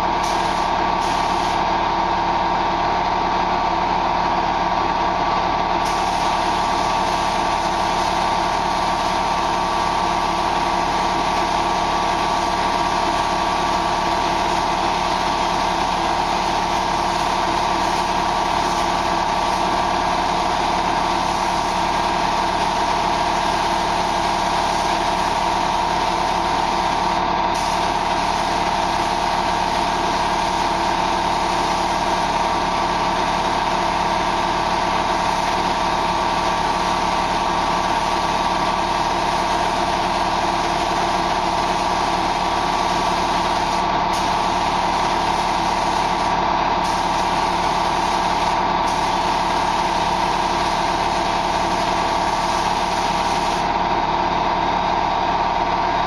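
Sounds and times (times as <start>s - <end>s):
spray painting machine drone: 0.0s - 2.2s, 5.7s - 56.0s.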